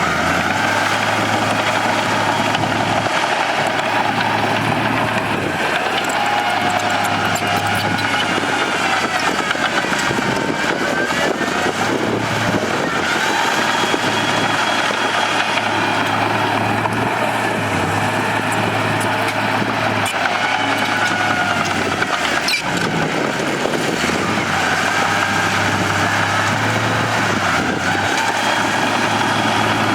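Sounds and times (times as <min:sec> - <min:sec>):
bulldozer diesel engine running: 0:00.0 - 0:29.9.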